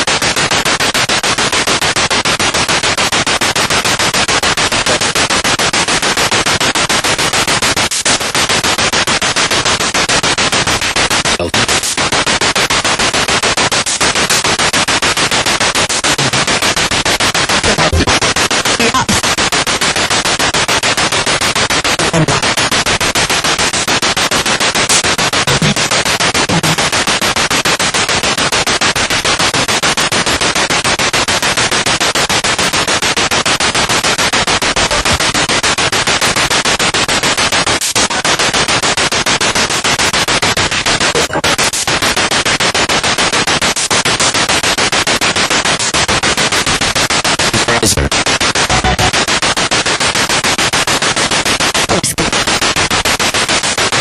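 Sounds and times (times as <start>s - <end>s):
radio static pulsing: 0.0s - 54.0s.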